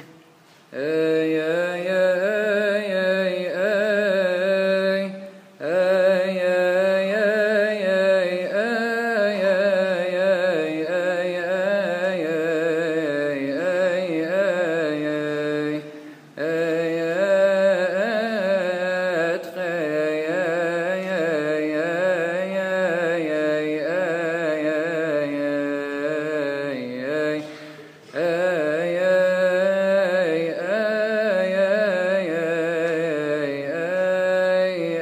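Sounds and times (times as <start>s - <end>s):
man chanting: 0.0s - 35.0s.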